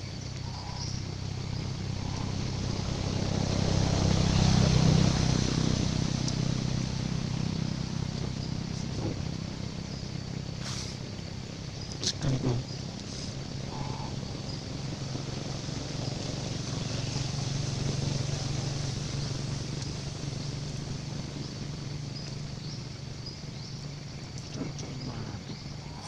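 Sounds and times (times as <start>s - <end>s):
low motor hum: 0.0s - 26.0s
outdoor background noise: 0.0s - 26.0s.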